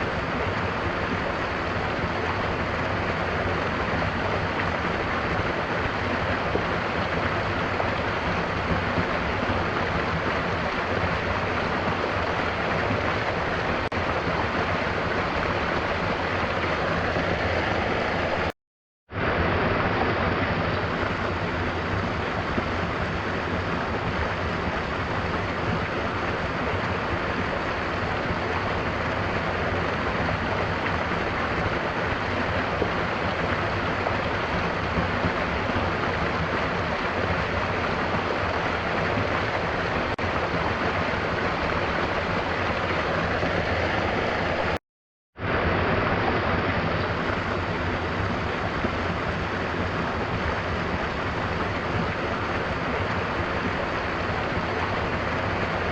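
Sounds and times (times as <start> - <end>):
waterfall rushing: 0.0 - 18.6, 19.2 - 44.8, 45.4 - 55.9
gentle rain: 0.0 - 44.8, 45.4 - 55.9.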